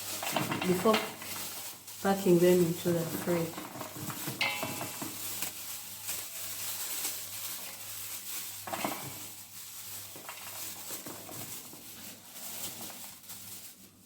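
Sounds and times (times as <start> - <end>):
beans clinking: 0.0 - 14.0
dry beans rattling in a saucepan: 0.0 - 14.0.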